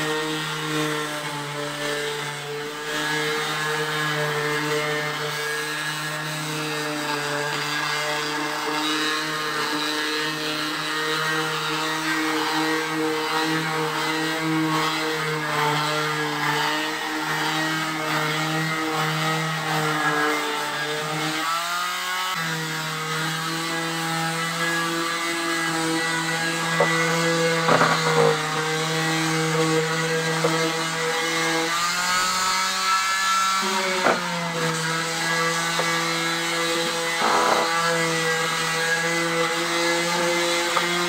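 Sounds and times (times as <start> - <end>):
electric palm sander on wood: 0.0 - 41.0.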